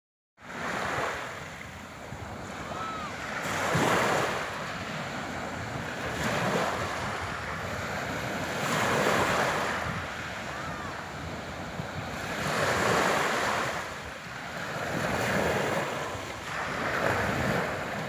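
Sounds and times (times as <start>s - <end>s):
sea waves washing onto shore: 0.5s - 18.0s.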